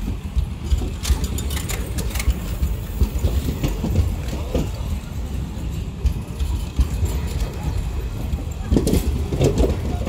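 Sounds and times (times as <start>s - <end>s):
train coaches rumbling past: 0.0s - 10.0s
wheel clicks over rail joints: 0.0s - 10.0s.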